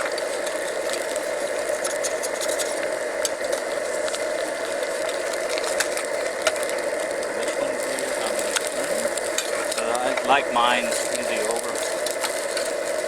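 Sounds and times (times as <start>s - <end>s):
eggs sizzling in a pan: 0.0s - 13.0s
stove burner rushing: 0.0s - 13.0s.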